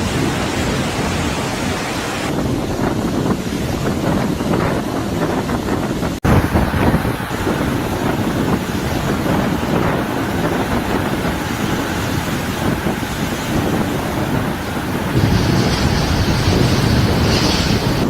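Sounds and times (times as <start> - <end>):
rushing water: 0.0 - 18.0
wind buffeting microphone: 0.0 - 18.0.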